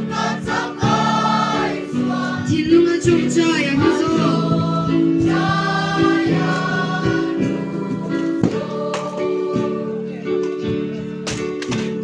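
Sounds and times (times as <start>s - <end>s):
group of voices singing: 0.0s - 11.4s.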